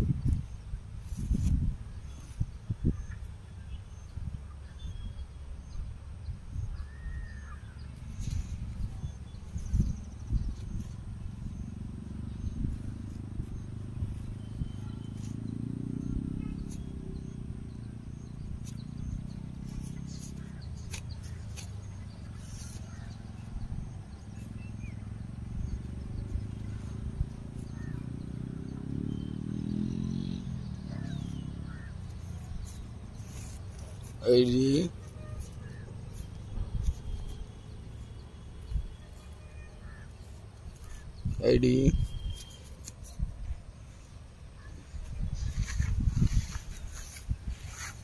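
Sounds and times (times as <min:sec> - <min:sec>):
low steady rumble: 0:00.0 - 0:48.0
faint bird chirps: 0:01.4 - 0:48.0.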